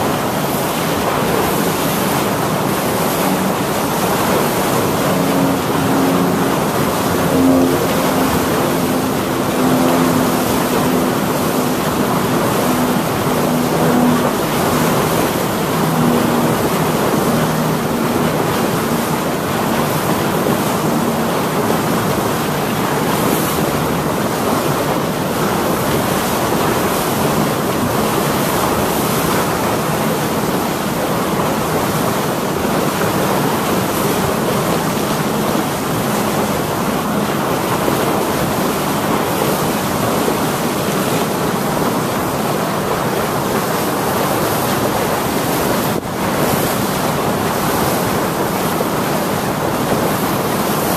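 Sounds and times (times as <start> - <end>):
water sloshing around boat: 0.0 - 50.9
wind buffeting microphone: 0.0 - 50.9.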